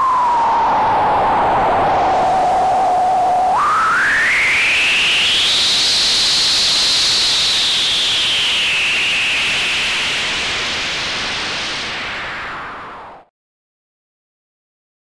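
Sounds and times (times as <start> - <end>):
whistling tone in hiss: 0.0 - 12.8
synthesized white noise: 0.0 - 13.3.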